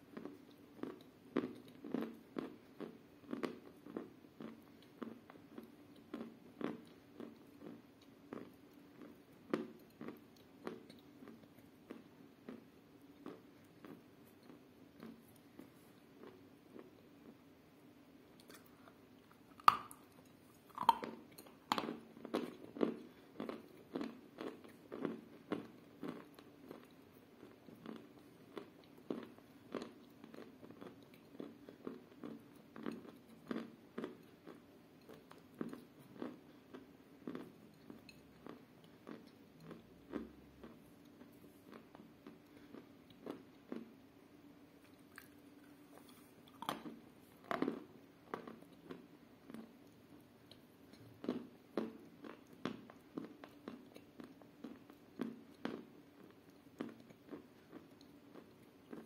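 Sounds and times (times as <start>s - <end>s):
chewing with soft crunching: 0.0s - 59.0s.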